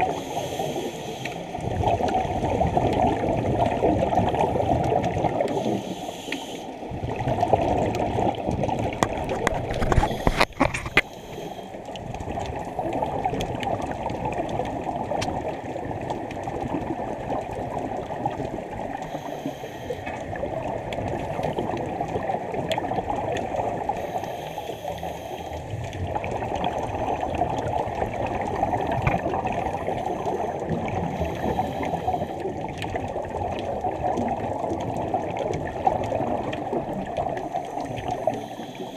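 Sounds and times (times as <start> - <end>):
underwater bubbling exhalation: 0.0 - 6.0, 6.8 - 38.9.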